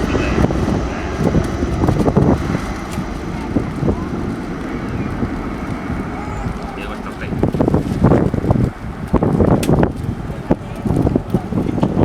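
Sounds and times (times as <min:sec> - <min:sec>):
faint voices: 0:00.0 - 0:12.0
wind buffeting microphone: 0:00.0 - 0:12.0.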